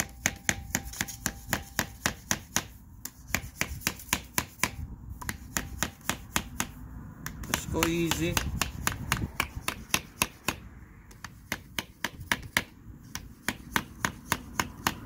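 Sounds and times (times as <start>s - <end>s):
hammer tapping plastic pipe: 0.0s - 15.0s.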